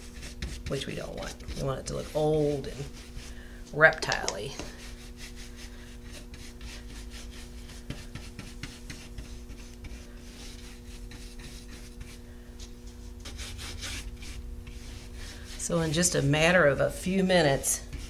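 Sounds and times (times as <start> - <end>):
brush scrubbing wax on wood: 0.0 - 3.4, 4.8 - 16.9, 17.6 - 18.0.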